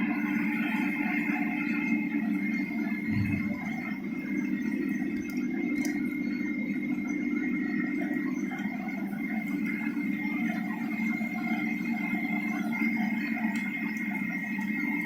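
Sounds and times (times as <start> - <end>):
machine hum with high whine: 0.0 - 15.0.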